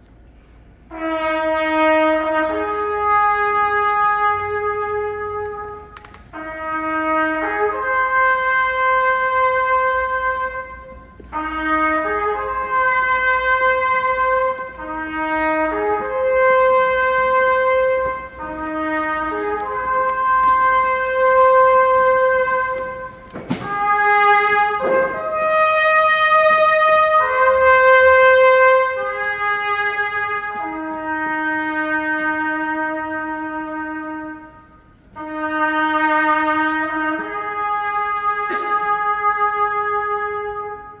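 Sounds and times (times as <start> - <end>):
solo trumpet slow melody: 0.0 - 41.0.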